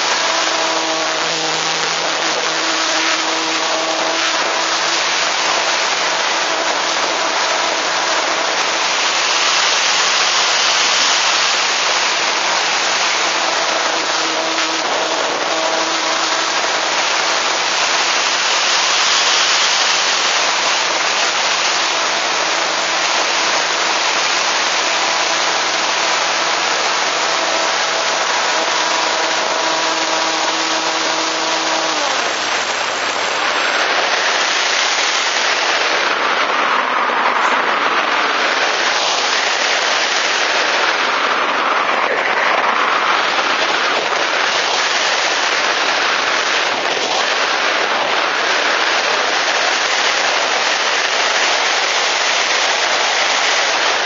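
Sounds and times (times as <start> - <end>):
electric motor whine: 0.0 - 54.0.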